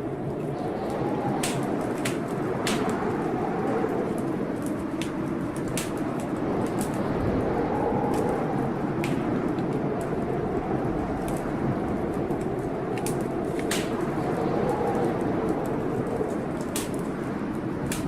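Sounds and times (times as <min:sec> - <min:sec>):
blizzard wind howling: 0:00.0 - 0:18.0
wood fire crackling and popping: 0:00.0 - 0:18.0.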